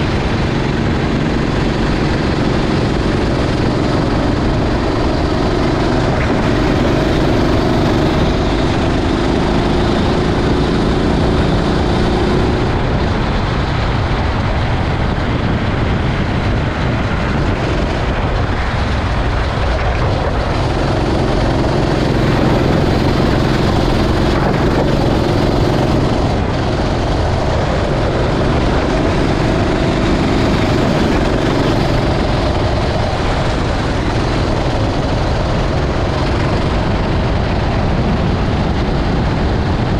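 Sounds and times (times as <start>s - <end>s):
kart engine revving: 0.0s - 39.9s
wind: 0.0s - 39.9s.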